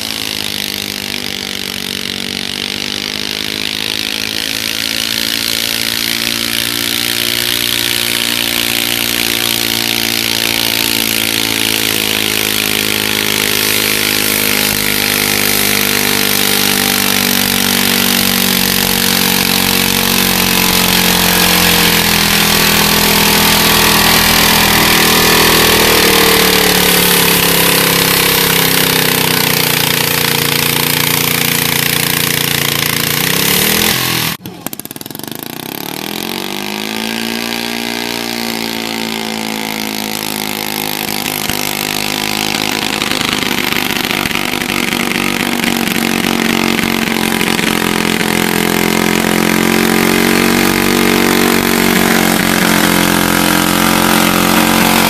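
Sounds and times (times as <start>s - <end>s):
tractor engine revving high: 0.0s - 55.0s.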